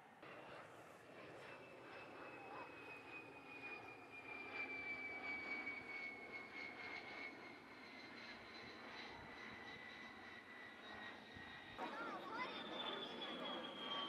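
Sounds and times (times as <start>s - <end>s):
jet engines whining in flight: 0.0s - 14.0s.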